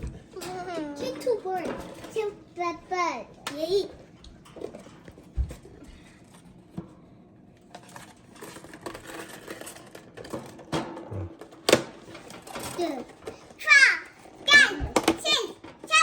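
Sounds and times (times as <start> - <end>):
rustling of things handled: 0.0 - 16.0.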